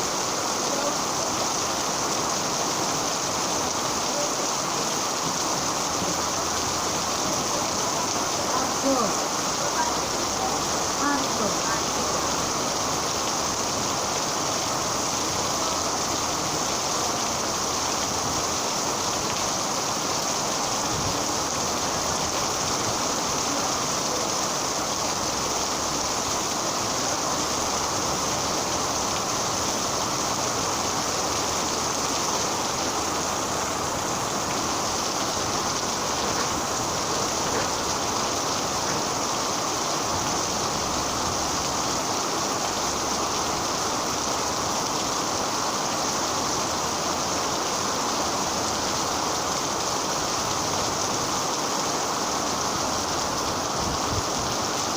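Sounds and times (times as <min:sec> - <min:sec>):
rain falling steadily: 0:00.0 - 0:54.9.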